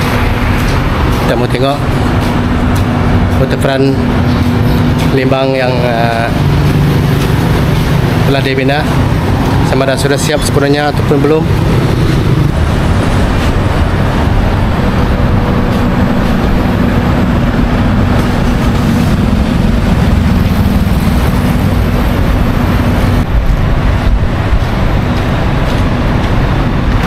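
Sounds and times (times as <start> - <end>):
street traffic noise: 0.0 - 27.0
vehicle engine humming: 0.0 - 27.0.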